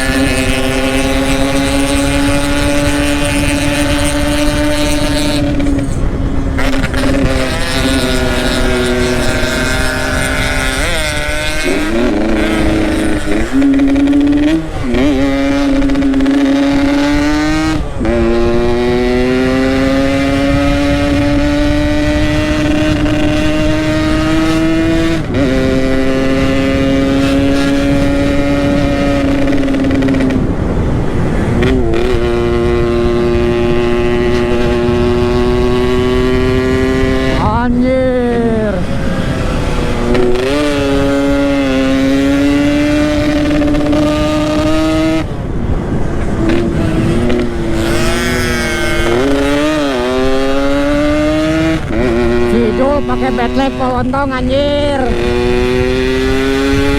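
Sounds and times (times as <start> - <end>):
low wind rumble: 0.0 - 56.9
two-stroke motorcycle engine: 0.0 - 56.9.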